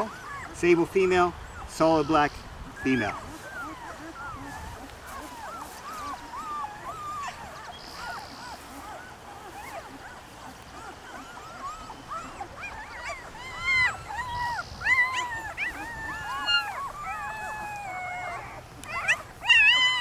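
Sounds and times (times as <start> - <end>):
puppies squealing and whining: 0.0 - 20.0.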